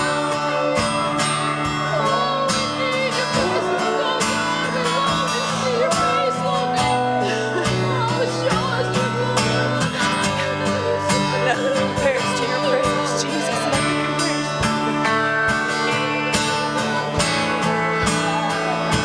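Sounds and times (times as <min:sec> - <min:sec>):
strummed acoustic guitar: 0:00.0 - 0:19.0
wavering voice or lead melody: 0:00.0 - 0:19.0
worship band playing slow song: 0:00.0 - 0:19.0.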